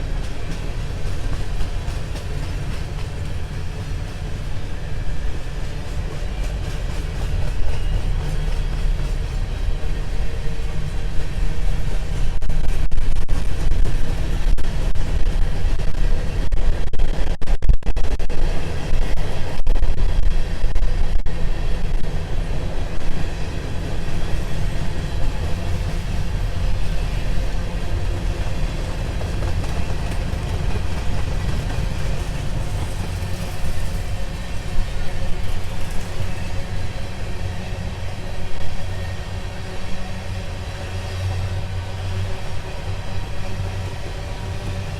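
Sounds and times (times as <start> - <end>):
freight train rolling past: 0.0 - 16.8, 18.3 - 44.9
steel wheels rumbling on rail: 0.0 - 17.4, 18.0 - 44.9.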